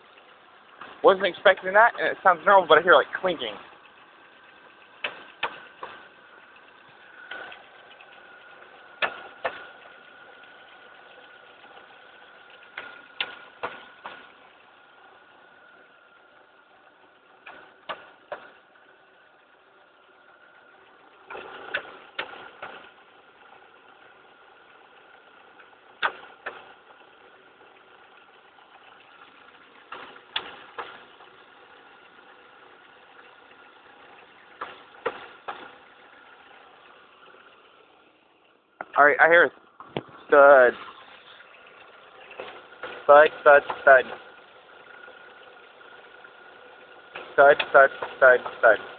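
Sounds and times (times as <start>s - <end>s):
car engine idling: 0.0s - 48.9s
sharp engine tapping: 0.1s - 38.0s, 38.8s - 48.9s.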